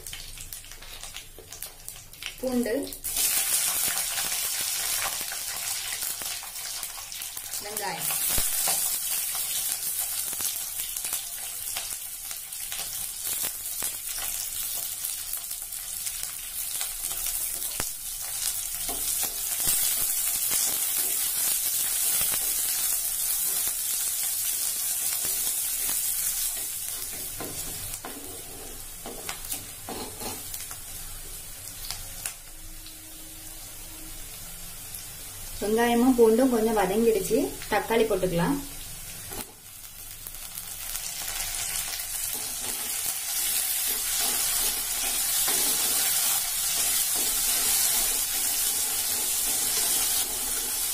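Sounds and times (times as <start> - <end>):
onions sizzling in oil: 0.0 - 50.9.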